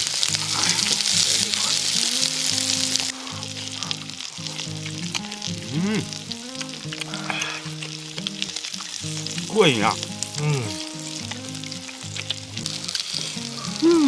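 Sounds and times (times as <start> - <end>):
background music with held notes: 0.0 - 14.0
sausages sizzling in oil: 0.0 - 14.0.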